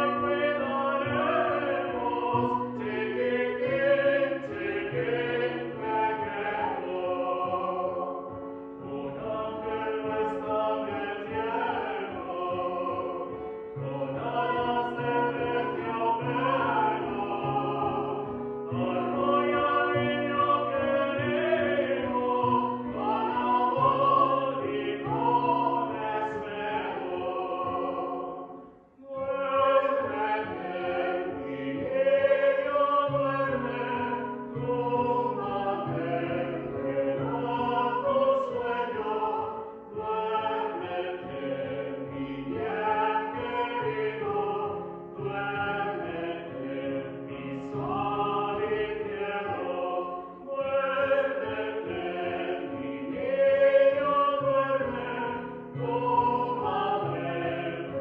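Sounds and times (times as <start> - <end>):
vocal ensemble singing in harmony: 0.0 - 58.0.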